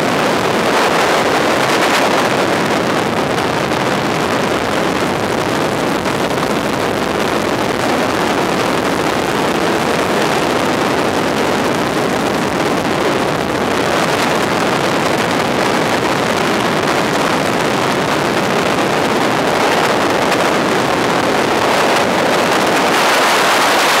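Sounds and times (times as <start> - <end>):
plane engine and propeller drone: 0.0 - 24.0
rushing wind: 0.0 - 24.0.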